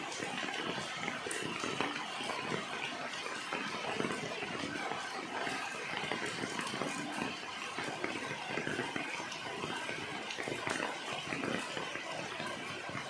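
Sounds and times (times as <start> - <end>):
rain pattering on leaves: 0.0 - 13.0.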